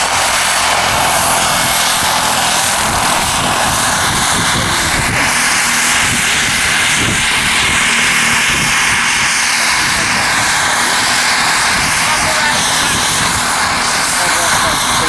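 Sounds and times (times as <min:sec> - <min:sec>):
model helicopter high-pitched whine: 0:00.0 - 0:15.0.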